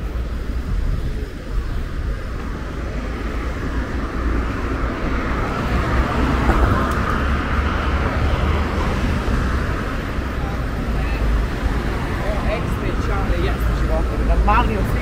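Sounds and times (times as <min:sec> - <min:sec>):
hum of city traffic: 0:00.0 - 0:15.0
vehicle passing: 0:02.0 - 0:15.0.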